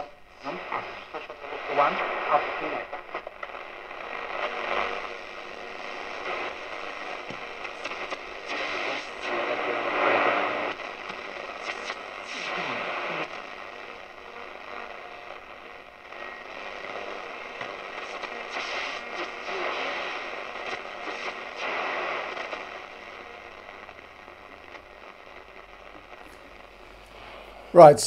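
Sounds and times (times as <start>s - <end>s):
radio static hiss and crackle: 0.0s - 28.0s.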